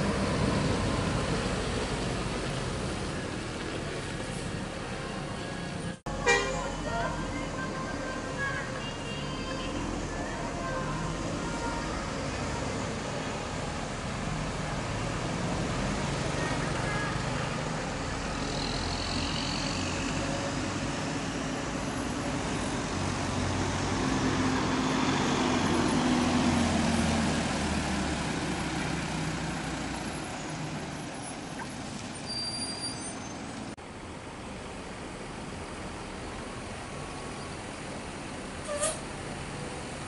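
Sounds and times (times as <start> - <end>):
bus diesel engines running: 0.0 - 40.0.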